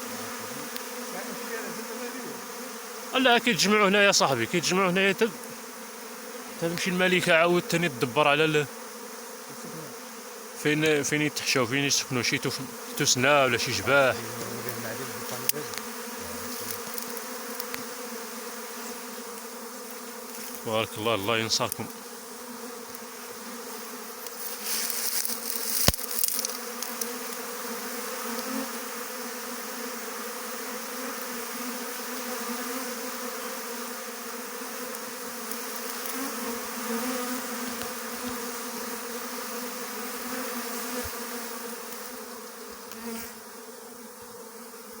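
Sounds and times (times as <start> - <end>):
bee swarm buzzing: 0.0 - 45.0.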